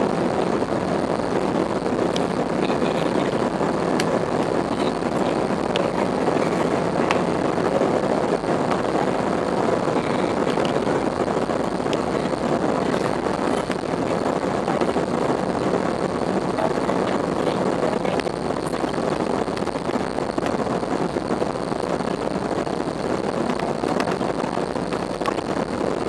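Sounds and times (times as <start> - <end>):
jet airliner engines running: 0.0 - 26.0.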